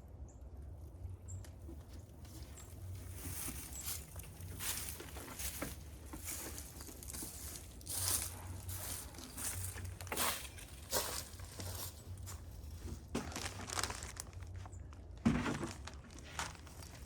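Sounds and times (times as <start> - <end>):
crunching and rustling: 1.5 - 17.0.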